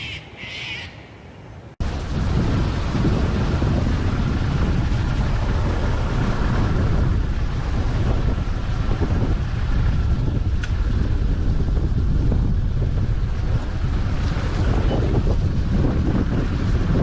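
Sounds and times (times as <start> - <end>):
gusty wind on microphone: 1.6 - 17.0.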